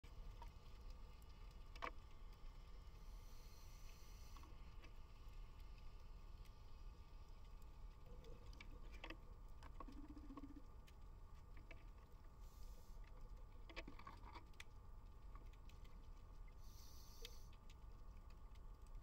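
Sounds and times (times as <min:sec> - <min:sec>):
faint clicks and ticks: 0:00.0 - 0:19.0.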